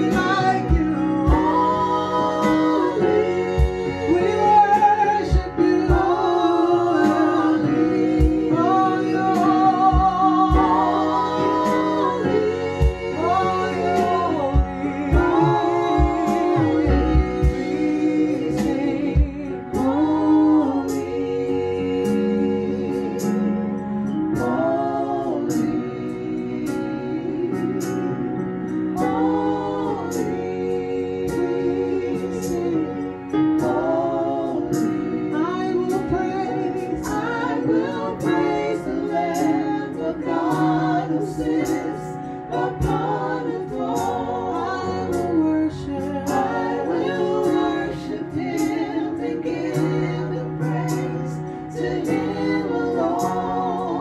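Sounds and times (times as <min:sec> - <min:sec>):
electronic keyboard chords: 0:00.0 - 0:54.0
women singing with vibrato: 0:00.0 - 0:54.0.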